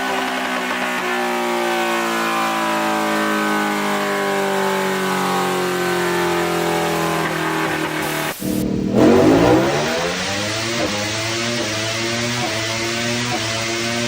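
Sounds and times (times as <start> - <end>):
motorcycle engine revving: 0.4 - 14.0.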